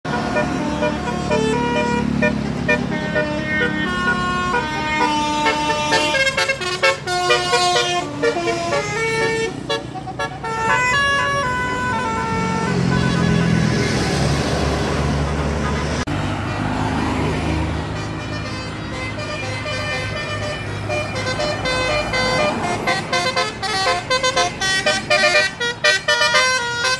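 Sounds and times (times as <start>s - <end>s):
bus engine rumble: 0.1s - 26.9s
bus multi-tone horn melody: 0.1s - 26.9s.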